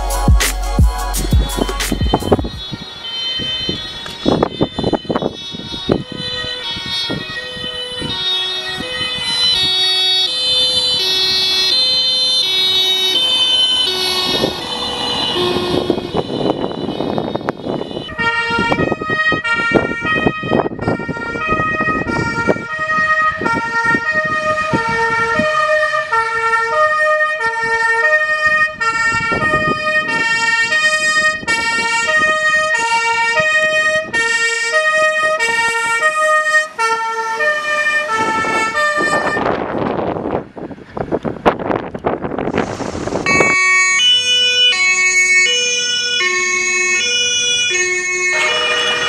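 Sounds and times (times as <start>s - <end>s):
passing vehicle engine and road noise: 0.0s - 49.0s
fire engine two-tone siren: 1.5s - 40.7s, 41.6s - 49.0s.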